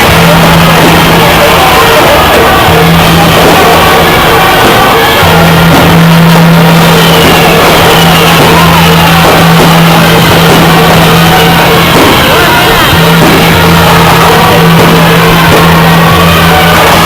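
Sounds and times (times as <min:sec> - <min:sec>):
loud distorted music: 0:00.0 - 0:17.0.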